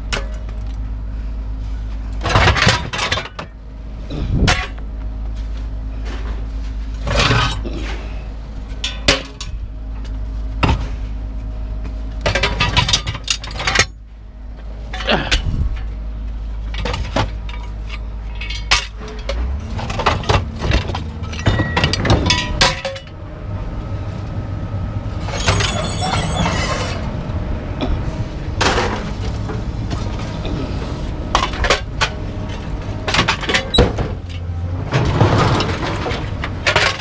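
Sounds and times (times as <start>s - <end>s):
scrap metal clanking and crashing: 0.0s - 0.8s, 2.0s - 4.8s, 5.9s - 11.2s, 12.2s - 14.0s, 14.8s - 16.0s, 16.6s - 23.2s, 25.2s - 27.2s, 27.8s - 37.0s
low engine hum: 0.0s - 37.0s.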